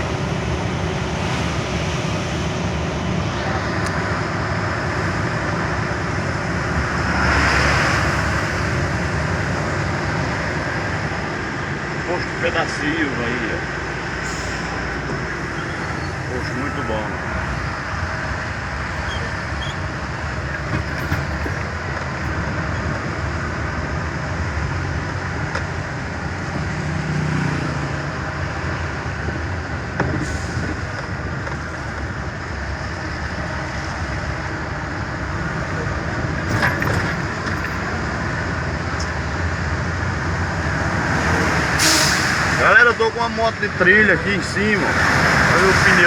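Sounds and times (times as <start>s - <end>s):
diesel engine rumble: 0.0s - 46.0s
road noise hiss: 0.0s - 46.0s.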